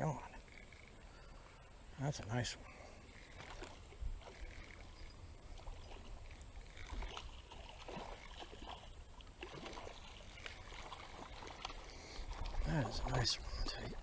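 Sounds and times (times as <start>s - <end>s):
creek water sloshing and splashing: 2.7s - 14.0s.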